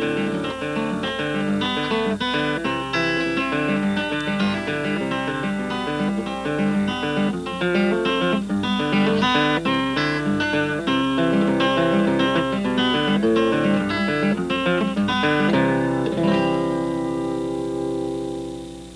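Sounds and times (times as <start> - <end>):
guitar picking melody: 0.0 - 18.9.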